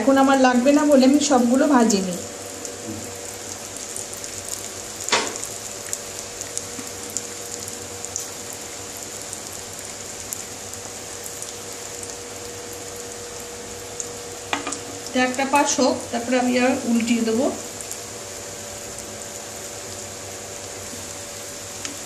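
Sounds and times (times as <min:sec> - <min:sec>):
fish frying in hot oil: 0:00.0 - 0:22.0
oil popping and crackling: 0:01.2 - 0:22.0.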